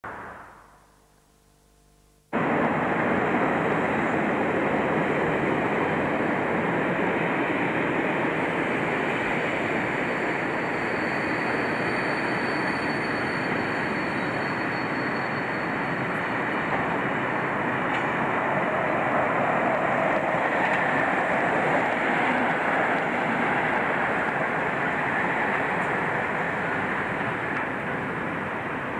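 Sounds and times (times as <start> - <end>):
diesel locomotive passing: 2.4 - 28.9
train wheels on rails: 2.4 - 28.9.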